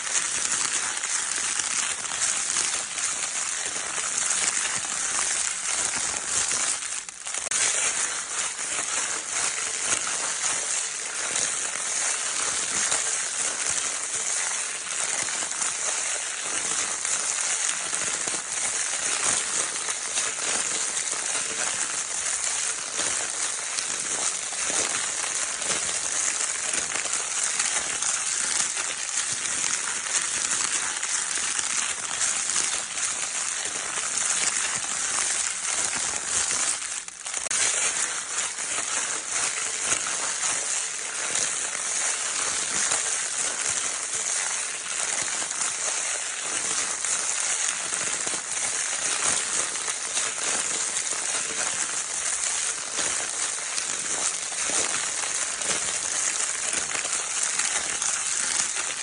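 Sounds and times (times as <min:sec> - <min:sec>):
crinkle paper rustling: 0:00.0 - 0:59.0.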